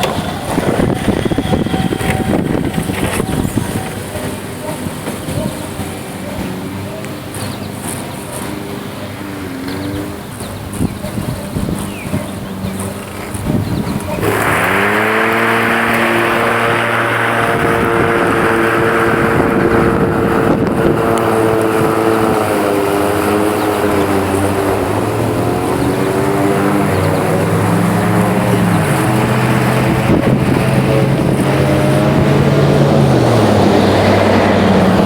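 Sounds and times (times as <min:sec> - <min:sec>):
electric lawn mower running: 0:00.0 - 0:35.0.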